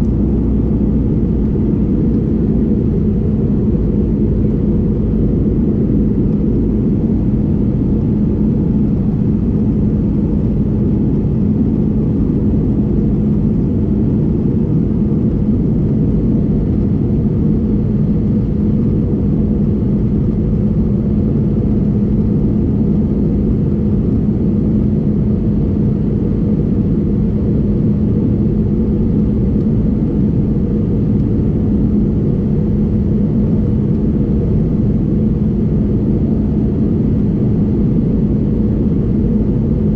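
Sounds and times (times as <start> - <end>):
constant hum: 0.0 - 39.9
jet engine and airflow rumble: 0.0 - 39.9.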